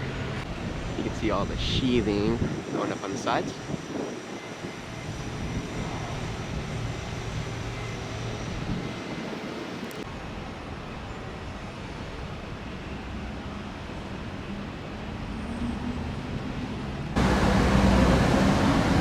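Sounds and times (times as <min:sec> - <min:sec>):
airport noise: 0:00.0 - 0:19.0
road traffic rumble: 0:00.0 - 0:19.0.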